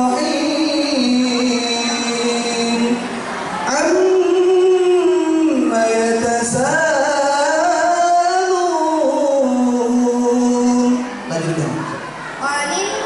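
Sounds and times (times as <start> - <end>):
boy chanting into microphone: 0.0 - 13.0.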